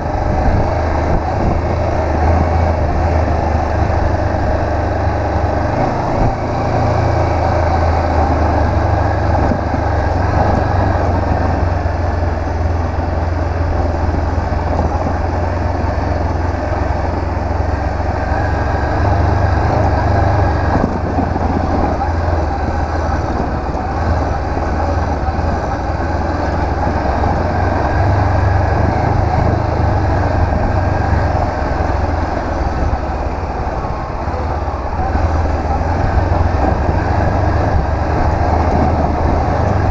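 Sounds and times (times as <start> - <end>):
motorcycle engine running: 0.0 - 39.9
steady rush of noise: 0.0 - 39.9.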